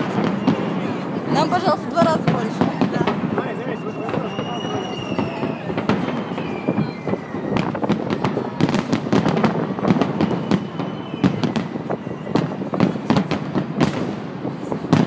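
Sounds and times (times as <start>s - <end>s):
fireworks bangs and crackling pops: 0.0s - 15.0s.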